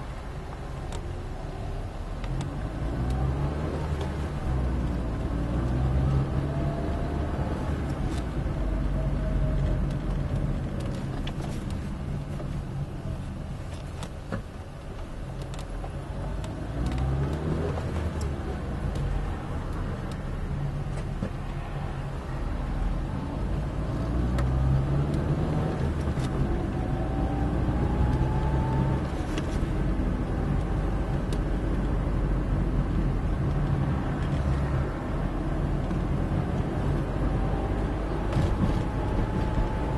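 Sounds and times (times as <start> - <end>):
car engine accelerating: 0.0 - 12.4, 15.5 - 39.9
road noise inside car: 0.0 - 39.9.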